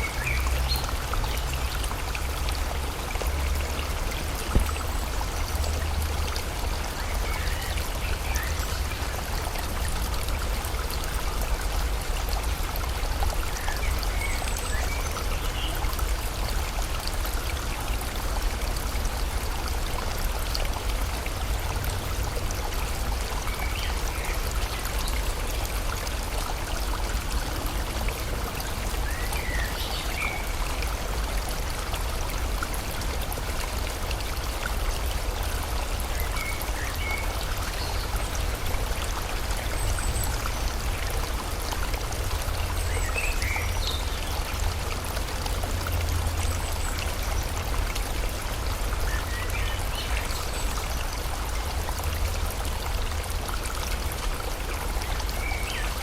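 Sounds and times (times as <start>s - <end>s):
rain falling: 0.0s - 56.0s
stream flowing: 0.0s - 56.0s.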